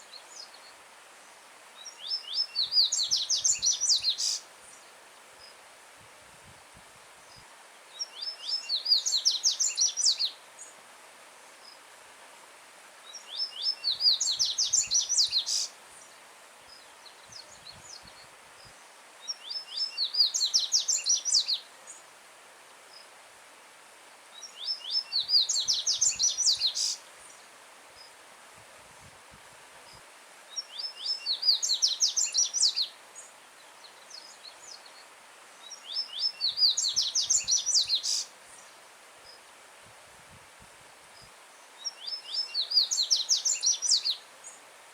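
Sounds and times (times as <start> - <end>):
faint stream: 0.0 - 44.9.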